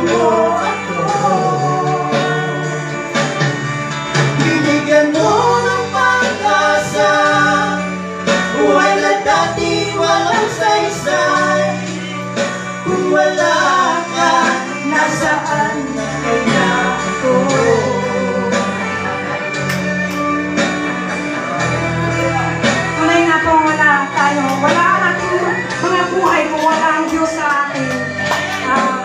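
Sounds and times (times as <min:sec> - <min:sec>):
instrumental accompaniment: 0:00.0 - 0:29.0
man and woman singing gospel: 0:00.0 - 0:29.0.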